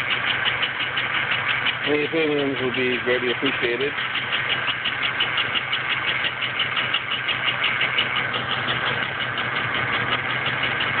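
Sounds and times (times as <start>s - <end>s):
engine idling with rapid ticking: 0.0s - 11.0s.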